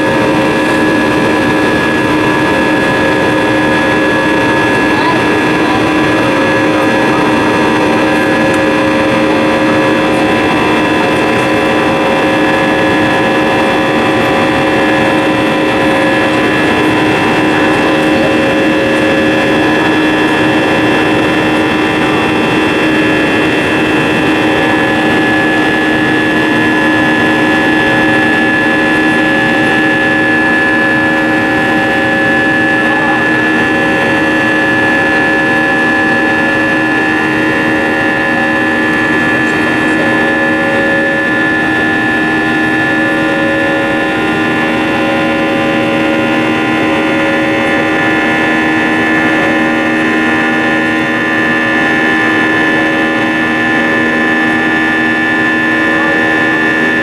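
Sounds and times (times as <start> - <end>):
jet engine roar in cabin: 0.0 - 57.0
steady whining tones: 0.0 - 57.0.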